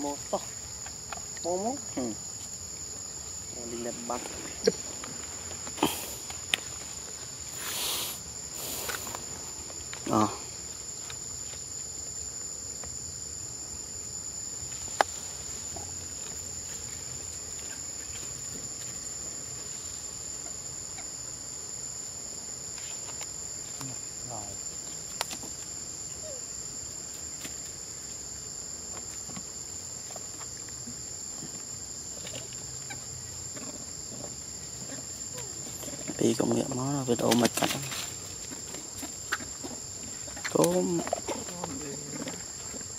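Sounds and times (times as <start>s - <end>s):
insect chorus droning: 0.0s - 42.9s.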